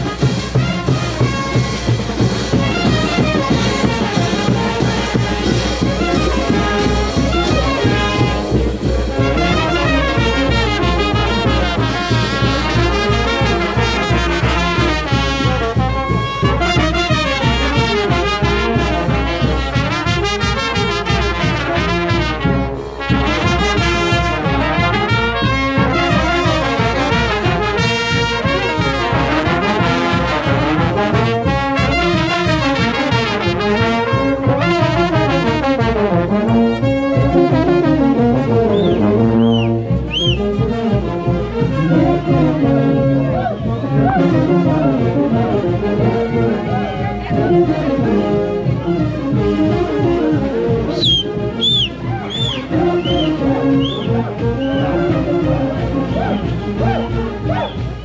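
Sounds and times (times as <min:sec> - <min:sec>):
marching brass band playing: 0:00.0 - 0:58.0.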